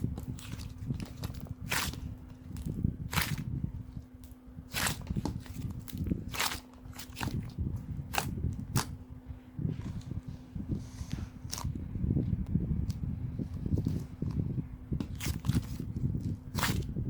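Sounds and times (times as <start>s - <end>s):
low rumble of handling: 0.0s - 17.0s.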